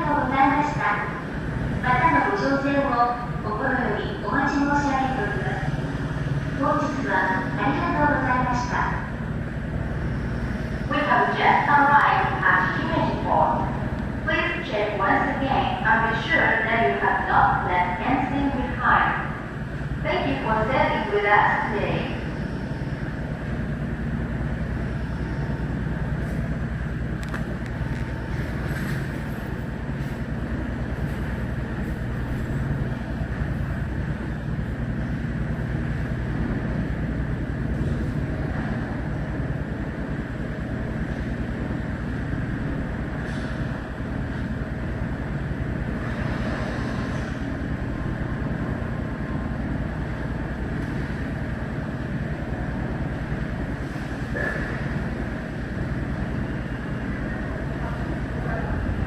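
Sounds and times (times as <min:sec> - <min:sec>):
ship diesel engines throbbing: 0:00.0 - 0:59.0.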